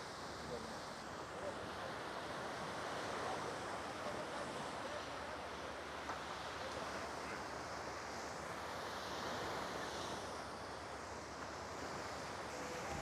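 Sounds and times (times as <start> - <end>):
sea surf on beach: 0.0 - 13.0.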